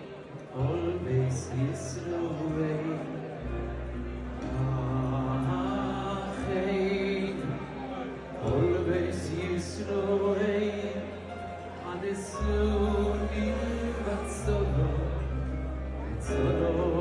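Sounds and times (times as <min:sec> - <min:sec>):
man singing into a microphone: 0:00.0 - 0:17.0
held bass notes: 0:00.6 - 0:17.0.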